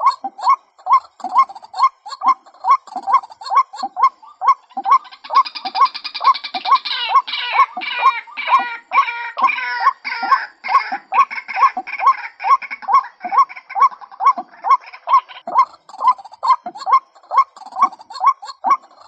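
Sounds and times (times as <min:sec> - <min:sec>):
harsh bird calling: 0:00.0 - 0:19.0.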